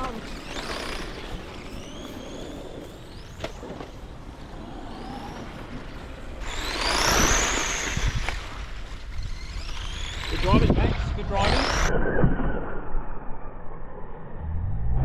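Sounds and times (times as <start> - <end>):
electric rc car motors whining: 0.0 - 13.5
rc car passing close: 0.0 - 15.0.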